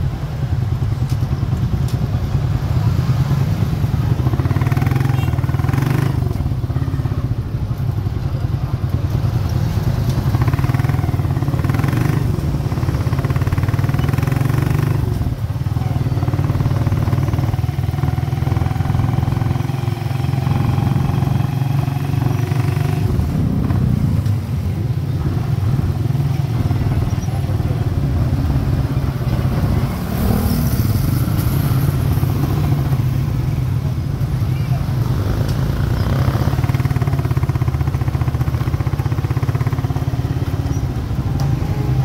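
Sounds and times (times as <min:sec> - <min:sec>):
motorcycle engine running: 0:00.0 - 0:42.0
street traffic: 0:00.0 - 0:42.0.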